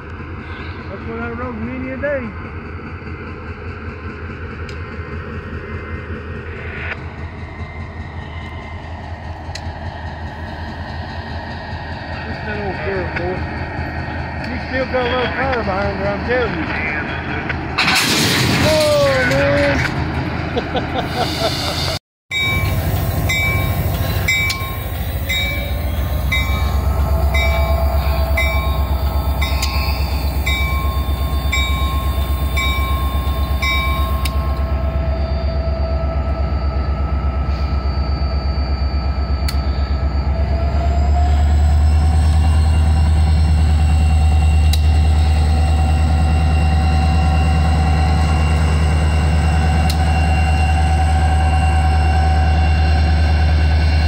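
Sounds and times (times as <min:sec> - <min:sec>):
diesel locomotive engine drone: 0:00.0 - 0:54.0
wheels rumbling on rail: 0:00.0 - 0:54.0.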